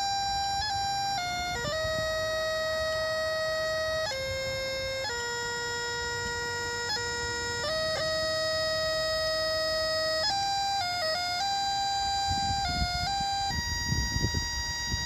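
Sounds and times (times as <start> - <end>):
bagpipes playing slow melody: 0.0 - 15.0.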